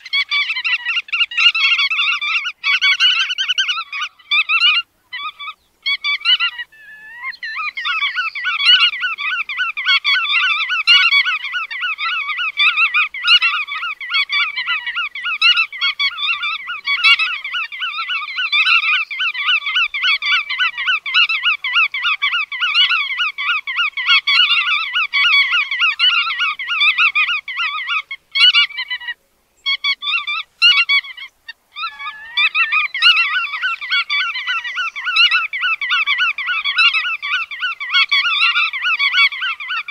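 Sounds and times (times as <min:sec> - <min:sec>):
shorebirds chattering calls: 0:00.0 - 0:39.9.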